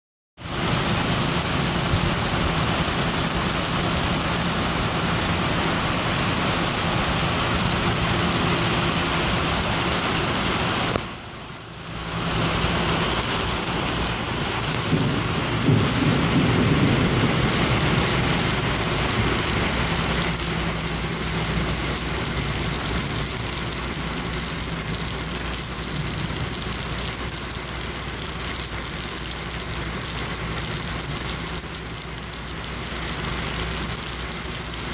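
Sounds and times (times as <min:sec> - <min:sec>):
rain on a metal roof: 0:00.4 - 0:34.9.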